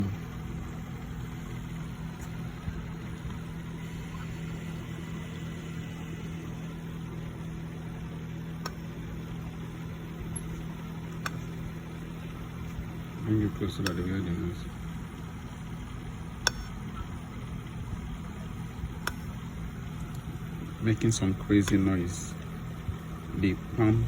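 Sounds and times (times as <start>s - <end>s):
low electrical hum from laptop speaker: 0.0s - 24.0s.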